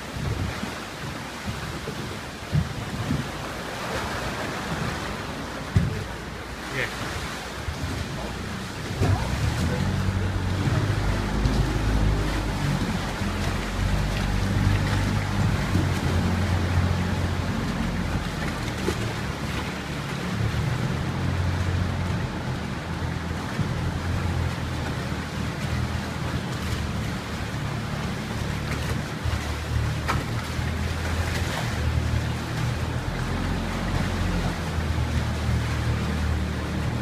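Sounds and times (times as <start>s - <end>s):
boat engine running: 0.0s - 37.0s
water rushing and lapping: 0.0s - 37.0s.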